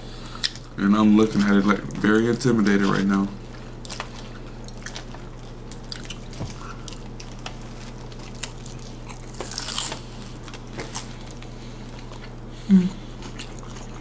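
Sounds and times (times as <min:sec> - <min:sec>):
steady low hum: 0:00.0 - 0:14.0
crunchy taco shells being chewed: 0:00.2 - 0:14.0.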